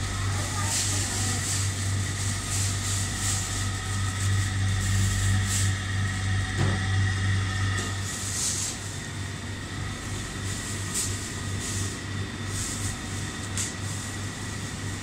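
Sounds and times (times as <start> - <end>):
drink cooler electrical hum: 0.0 - 15.0.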